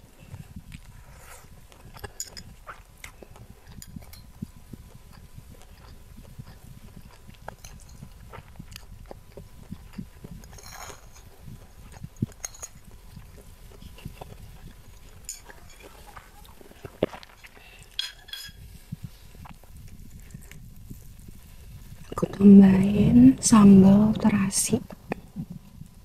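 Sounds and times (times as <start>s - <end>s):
chewing and mouth sounds: 0.2s - 23.0s.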